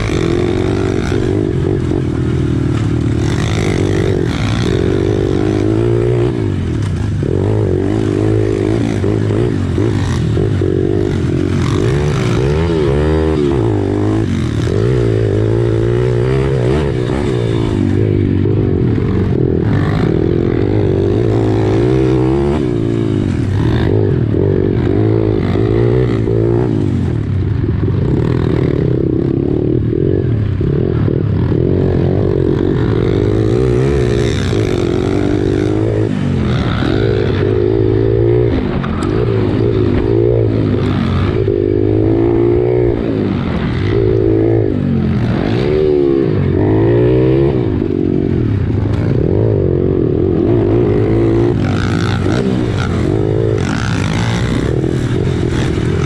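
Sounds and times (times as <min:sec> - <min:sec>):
pit bike engine revving: 0:00.0 - 0:56.0.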